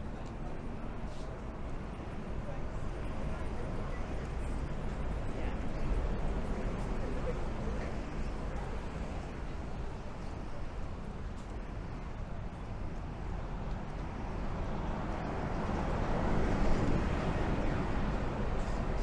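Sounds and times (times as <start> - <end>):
bus passing: 0.0 - 19.0
street traffic noise: 0.0 - 19.0.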